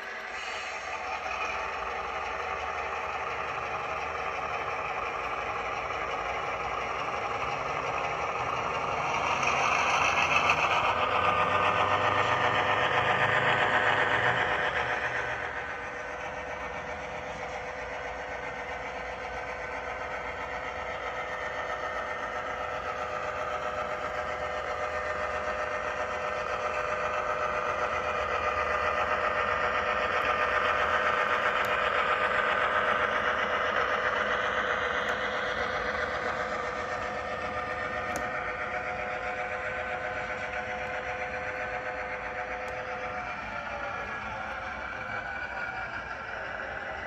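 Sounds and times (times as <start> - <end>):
model locomotive engine sound: 0.0 - 47.0.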